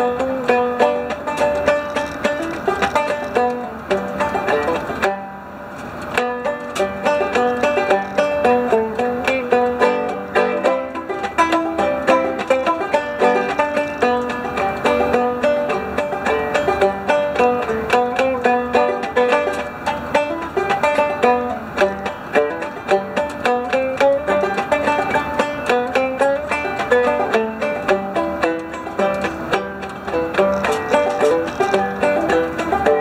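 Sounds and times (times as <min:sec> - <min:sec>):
banjo plucked notes: 0:00.0 - 0:33.0.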